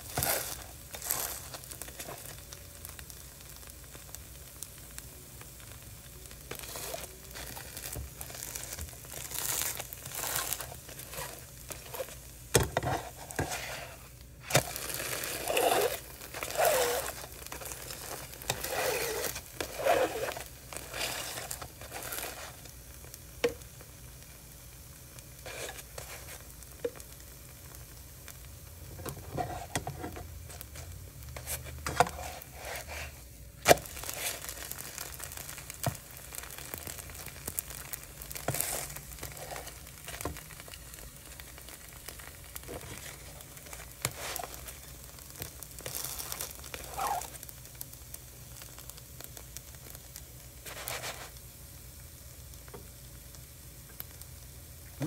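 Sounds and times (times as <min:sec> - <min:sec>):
batter sizzling in a frying pan: 0:00.0 - 0:55.0.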